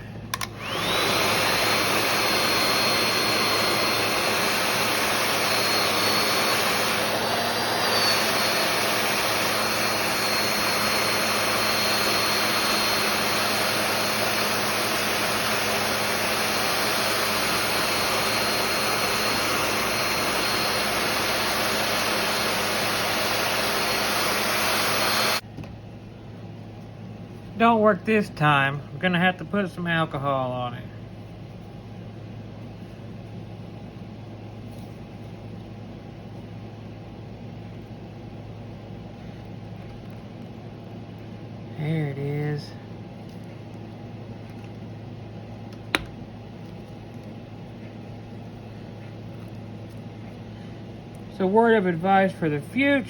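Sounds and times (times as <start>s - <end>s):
heat gun blowing with fan whine: 0.0s - 25.5s, 32.0s - 53.0s.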